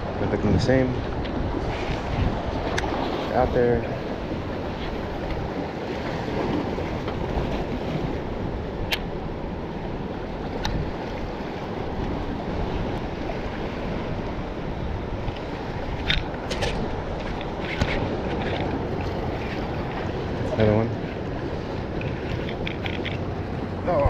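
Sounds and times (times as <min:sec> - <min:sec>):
waves washing against rocks: 0:00.0 - 0:24.0
wind: 0:00.0 - 0:24.0.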